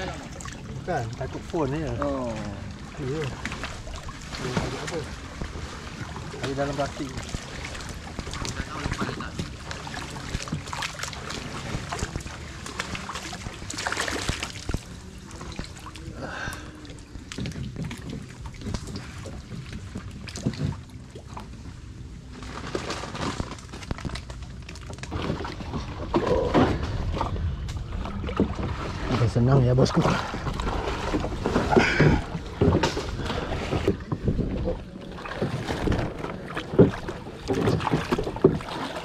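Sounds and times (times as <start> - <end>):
muddy water sloshing from wading: 0.0 - 39.0.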